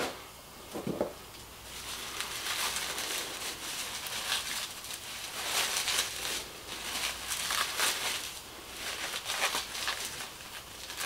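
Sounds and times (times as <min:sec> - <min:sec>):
plastic bag crinkling: 0:00.8 - 0:11.0.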